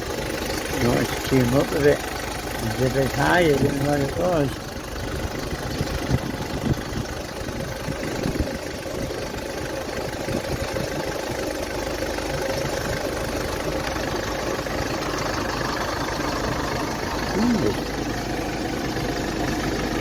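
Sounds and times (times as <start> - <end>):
van engine idling: 0.0 - 20.0.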